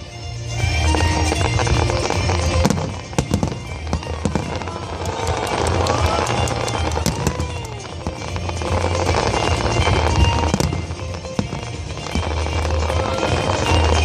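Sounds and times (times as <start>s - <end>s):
fireworks bangs and crackles: 0.0s - 14.0s
loud music with bass: 0.1s - 7.2s, 7.9s - 14.0s.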